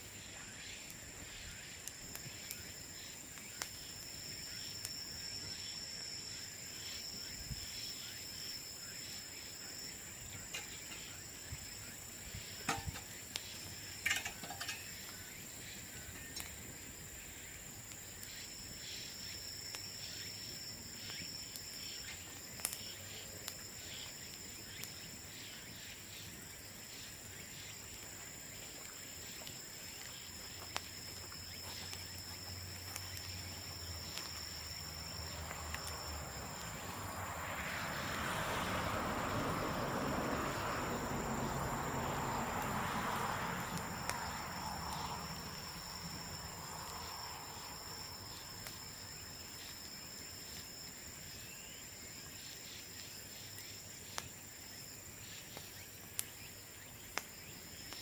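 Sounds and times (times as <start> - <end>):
fire crackling: 0.0 - 58.0
insects trilling: 0.0 - 58.0.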